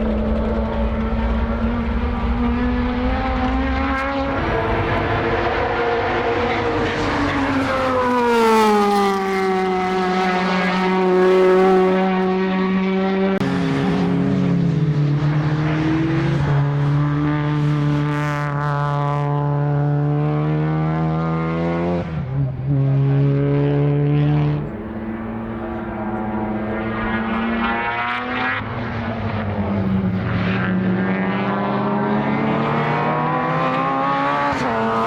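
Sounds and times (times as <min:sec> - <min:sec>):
race car engine running hard: 0:00.0 - 0:35.0.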